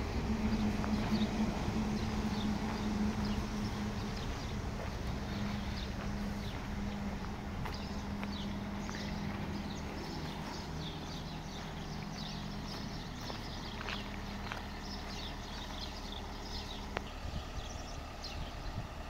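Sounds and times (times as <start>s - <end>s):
steady low hum: 0.0s - 19.0s
small birds chirping: 0.4s - 19.0s.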